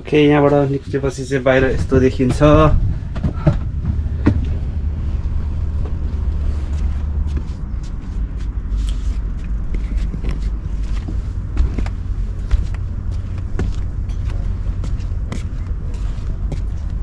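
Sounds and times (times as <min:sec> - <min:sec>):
wind buffeting microphone: 0:00.7 - 0:17.0.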